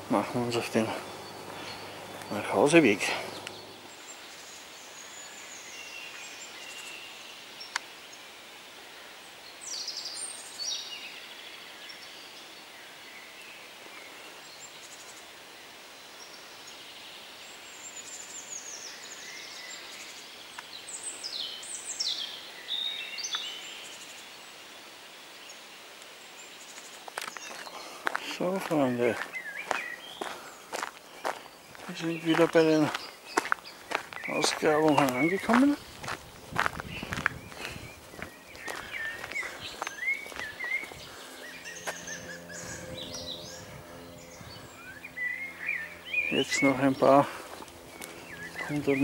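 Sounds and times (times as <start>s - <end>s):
faint outdoor hiss: 0.0s - 49.0s
songbirds chirping and trilling: 0.0s - 49.0s.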